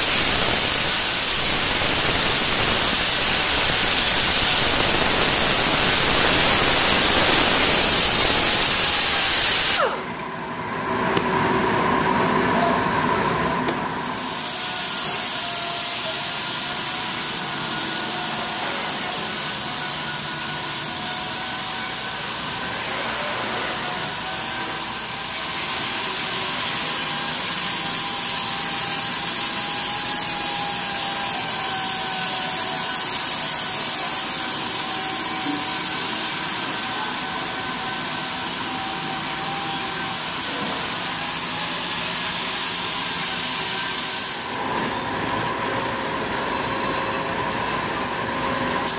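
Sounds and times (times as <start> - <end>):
shop machinery hiss and whine: 0.0 - 48.9.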